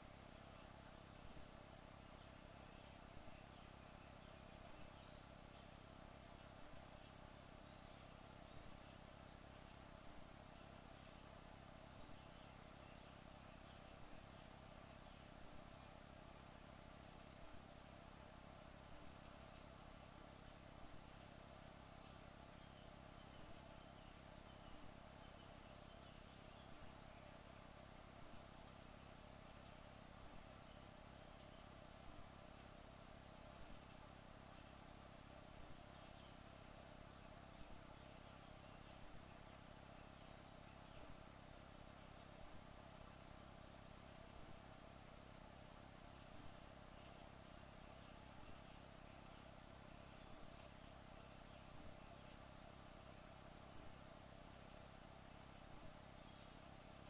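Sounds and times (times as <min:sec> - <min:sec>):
faint steady hum and hiss: 0:00.0 - 0:57.0.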